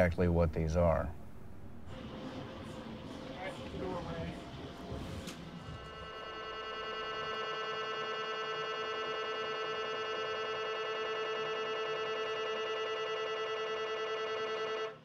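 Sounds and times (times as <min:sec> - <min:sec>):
mri scanner buzzing: 0:01.2 - 0:15.0.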